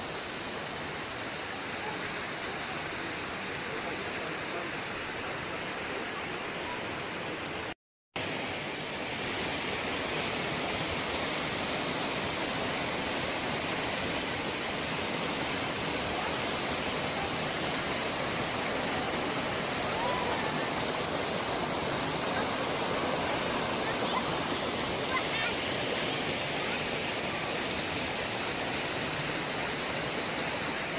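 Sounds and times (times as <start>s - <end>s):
waterfall rushing over rocks: 0.0s - 30.9s.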